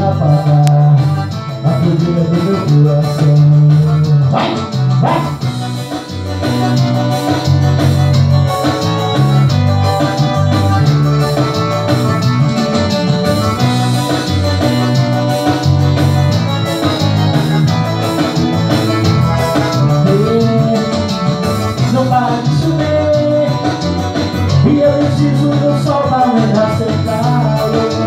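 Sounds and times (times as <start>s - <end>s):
guitar: 0.0s - 28.0s
keyboard melody: 0.0s - 28.0s
steady bass line: 0.0s - 28.0s.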